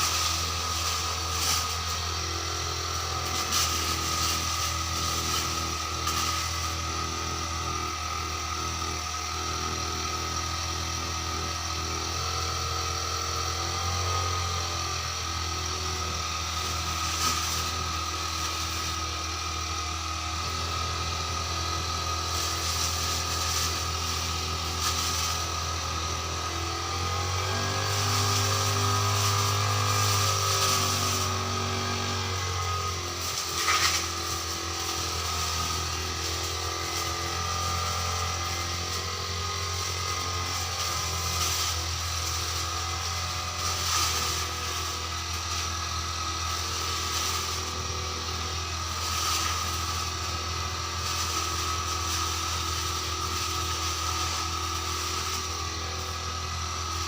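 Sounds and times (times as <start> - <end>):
brush cutter engine cutting grass: 0.0 - 57.0.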